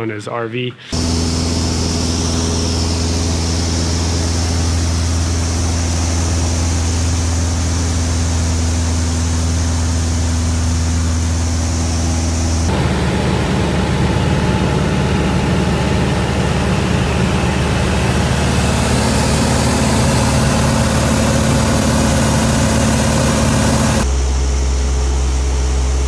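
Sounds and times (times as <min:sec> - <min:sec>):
airplane engine droning: 0:00.9 - 0:26.0.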